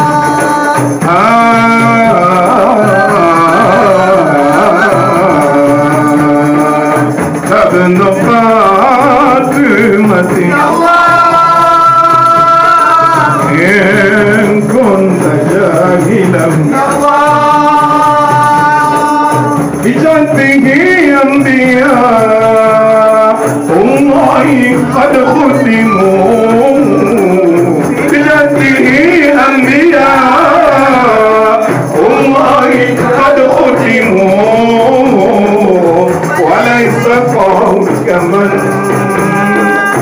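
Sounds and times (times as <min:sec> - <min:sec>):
frame drums: 0:00.0 - 0:40.0
men singing a devotional chant: 0:00.0 - 0:40.0.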